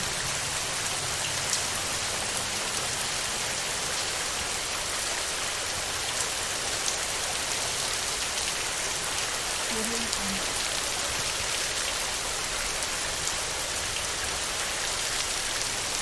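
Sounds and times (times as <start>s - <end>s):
heavy rain on a tin roof: 0.0s - 16.0s.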